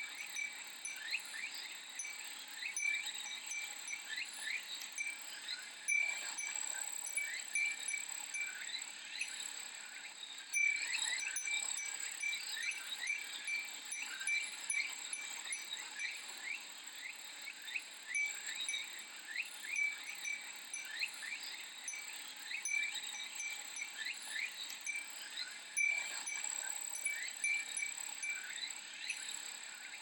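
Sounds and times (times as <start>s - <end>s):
wind chime ringing: 0.0s - 5.2s, 5.9s - 8.6s, 10.6s - 16.2s, 18.1s - 25.1s, 25.8s - 29.2s
cicadas droning: 0.0s - 30.0s.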